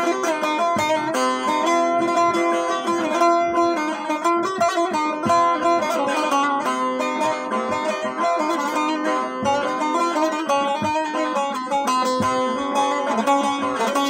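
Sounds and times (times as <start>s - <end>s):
plucked long-necked lute melody: 0.0s - 14.0s.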